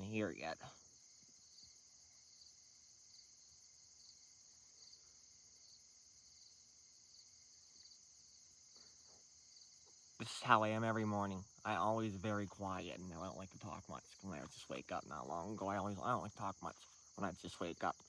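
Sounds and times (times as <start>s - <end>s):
crickets trilling and chirping: 0.0s - 18.0s.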